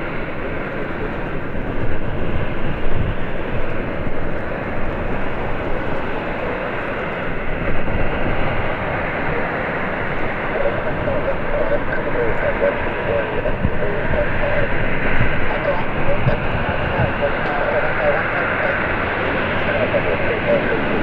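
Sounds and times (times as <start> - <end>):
jet engines running: 0.0 - 21.0
wind on microphone: 0.0 - 21.0.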